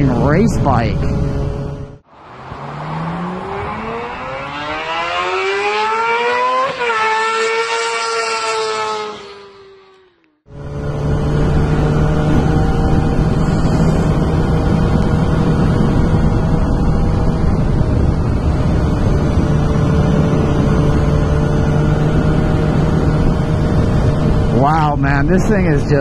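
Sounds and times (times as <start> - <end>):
loud motorcycle exhaust: 1.0 - 24.7.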